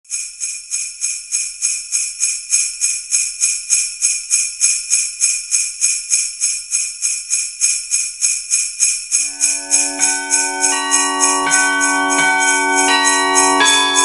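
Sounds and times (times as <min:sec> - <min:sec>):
jingle bells shaken: 0:00.1 - 0:14.0.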